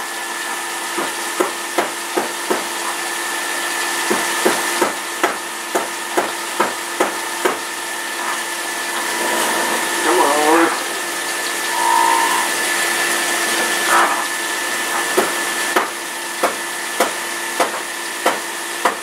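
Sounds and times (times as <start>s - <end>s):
juicer motor whine: 0.0s - 19.0s.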